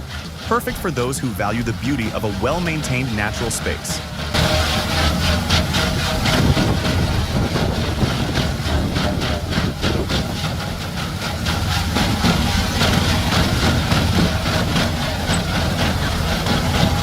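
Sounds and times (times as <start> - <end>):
branch trimmer rapid clatter: 0.0 - 17.0
heavy engine running: 0.0 - 17.0.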